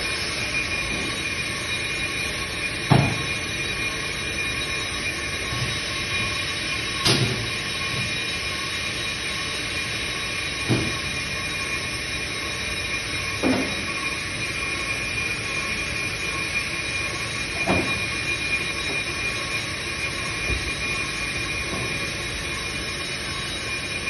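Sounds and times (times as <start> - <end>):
brake lathe metallic whine: 0.0 - 24.0.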